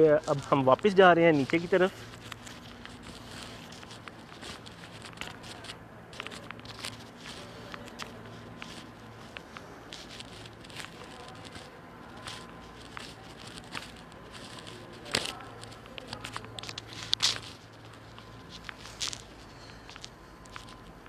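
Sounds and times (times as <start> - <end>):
footsteps on concrete floor: 0.0 - 21.0.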